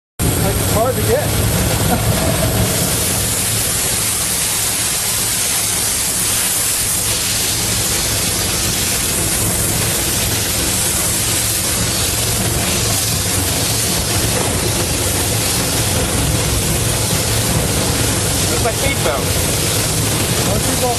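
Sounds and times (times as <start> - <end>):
loud steam hiss: 0.2 - 20.9
low steady rumble: 0.2 - 20.9.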